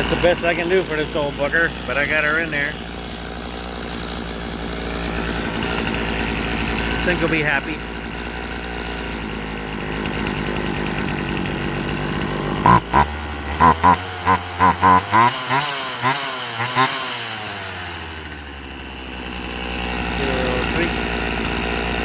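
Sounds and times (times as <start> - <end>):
chainsaw engine idling: 0.0 - 22.0.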